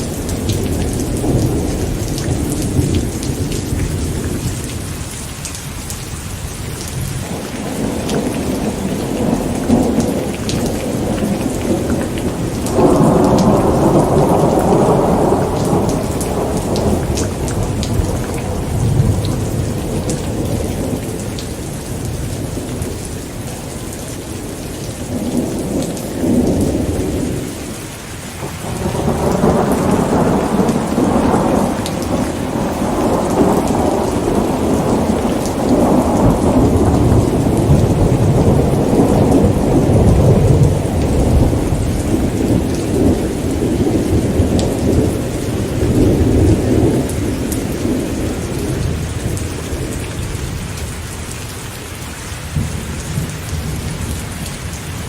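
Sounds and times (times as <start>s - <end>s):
thunder rumbling: 0.0s - 5.3s, 6.8s - 27.8s, 28.4s - 50.9s
steady rain falling: 0.0s - 55.0s.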